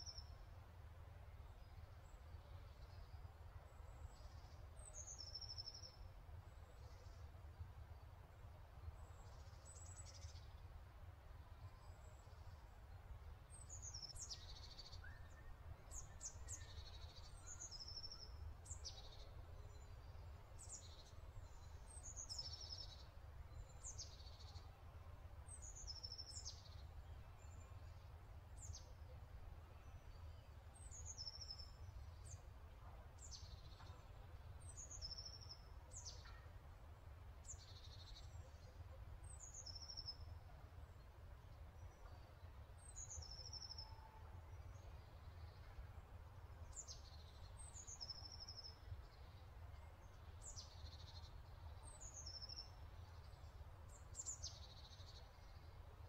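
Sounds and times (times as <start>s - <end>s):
faint birdsong chirps: 0.0s - 56.0s.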